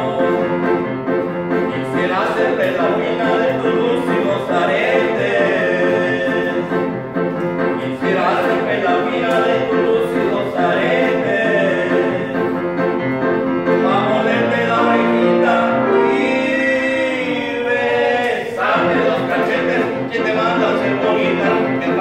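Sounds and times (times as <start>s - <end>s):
men singing operatically: 0.0s - 0.9s, 1.6s - 7.0s, 7.6s - 12.9s, 13.6s - 22.0s
grand piano: 0.0s - 22.0s.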